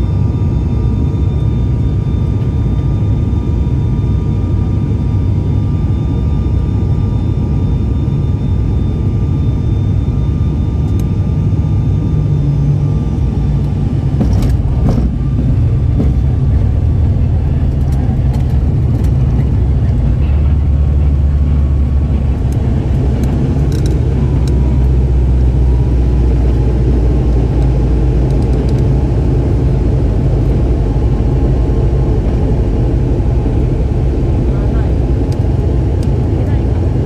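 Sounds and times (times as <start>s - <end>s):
turboprop engine drone: 0.0s - 37.0s.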